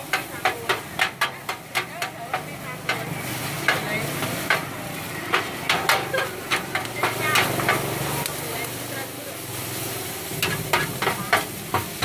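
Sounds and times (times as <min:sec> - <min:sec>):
noodles sizzling: 0:00.0 - 0:12.0
metal spatula scraping steel pan: 0:00.1 - 0:08.3, 0:10.4 - 0:12.0.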